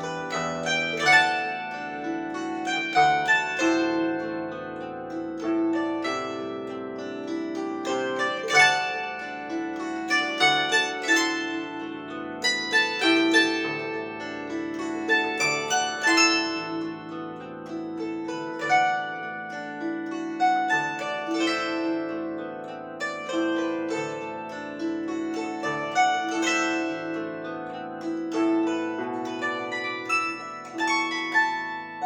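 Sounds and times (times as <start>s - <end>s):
plucked string instrument melody: 0.0s - 32.0s.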